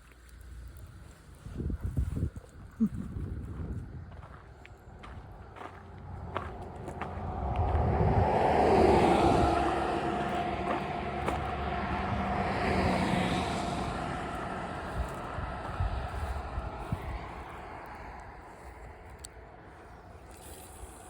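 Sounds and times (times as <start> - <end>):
traffic passing on road: 3.3 - 21.0.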